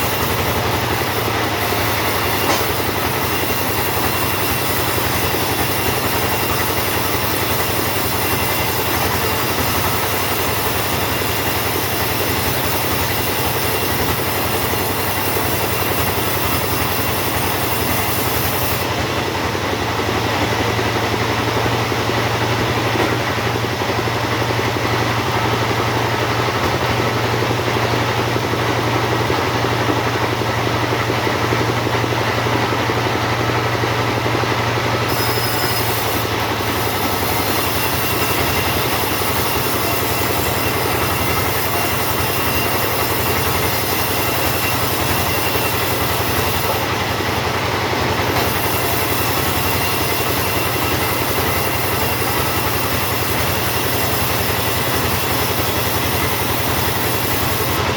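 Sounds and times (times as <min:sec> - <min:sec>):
chainsaw sawing wood: 0:00.0 - 0:57.9.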